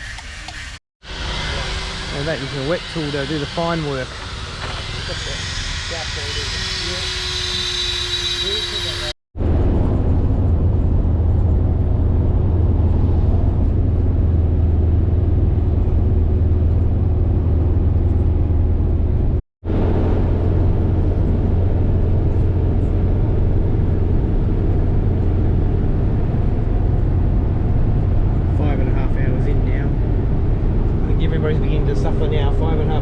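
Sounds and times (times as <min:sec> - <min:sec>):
minibus engine and road drone: 0:00.0 - 0:33.0.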